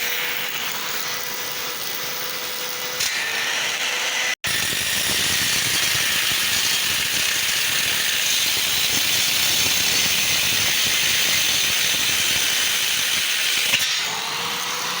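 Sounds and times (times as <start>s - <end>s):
angle grinder grinding: 0.0s - 15.0s.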